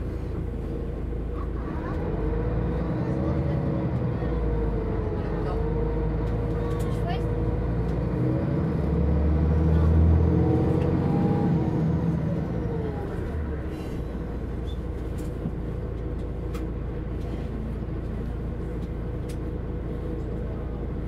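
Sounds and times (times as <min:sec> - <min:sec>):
bus engine droning: 0:00.0 - 0:21.0.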